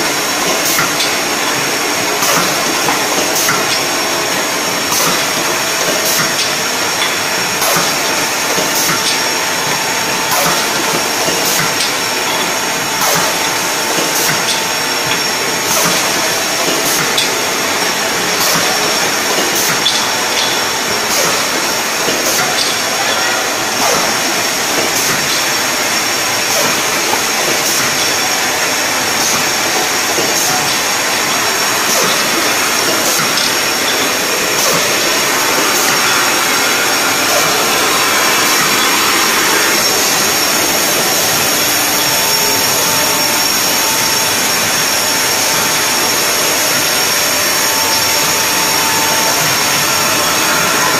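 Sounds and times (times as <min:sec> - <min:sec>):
filling machine hiss and hum: 0:00.0 - 0:50.9.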